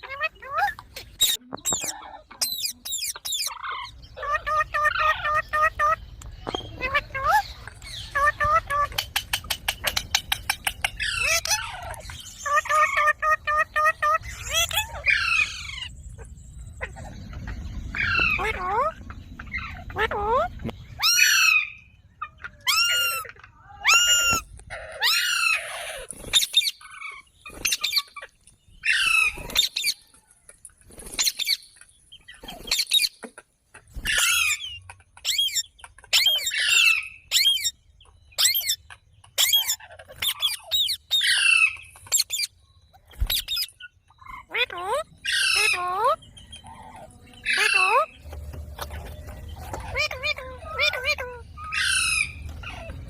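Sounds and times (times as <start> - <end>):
parrot calling: 0.0 - 30.0, 33.9 - 37.8, 38.4 - 53.0.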